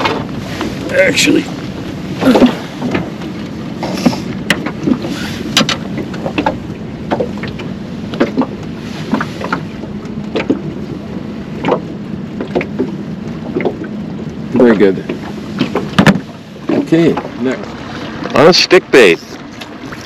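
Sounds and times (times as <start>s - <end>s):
boat motor hum: 0.0s - 20.0s
knocks and water slaps: 0.0s - 20.0s.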